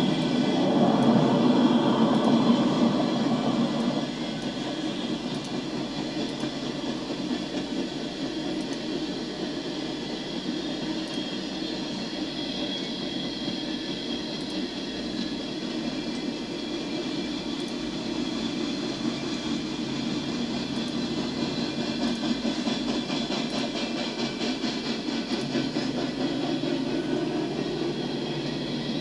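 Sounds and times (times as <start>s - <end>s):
freight train wheels rumbling: 0.0s - 29.0s
rhythmic clickety-clack of wheels: 0.0s - 29.0s.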